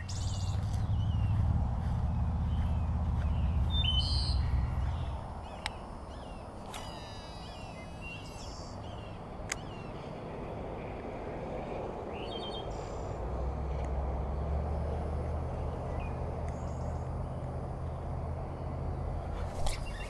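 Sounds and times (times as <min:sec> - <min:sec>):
birds chirping: 0:00.0 - 0:13.6, 0:14.2 - 0:20.0
wind rumbling on microphone: 0:00.0 - 0:20.0.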